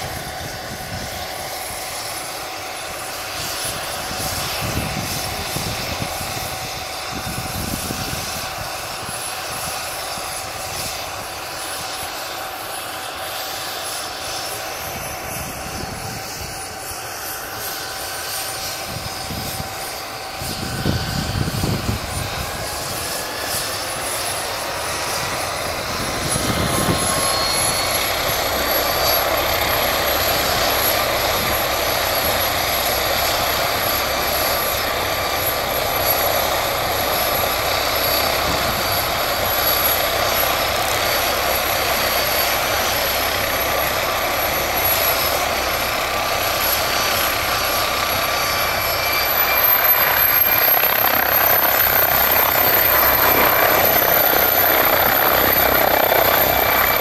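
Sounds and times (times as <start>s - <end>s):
wind buffeting on microphone: 0.0s - 1.5s, 3.4s - 12.0s, 14.3s - 16.9s, 18.3s - 57.0s
helicopter turbine and rotor roar: 0.0s - 57.0s.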